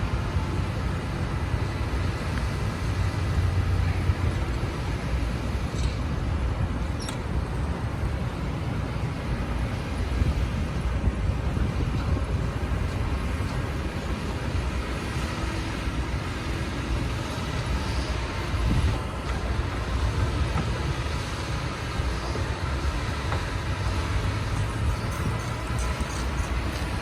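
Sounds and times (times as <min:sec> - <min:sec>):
excavator diesel engine rumbling: 0:00.1 - 0:27.0.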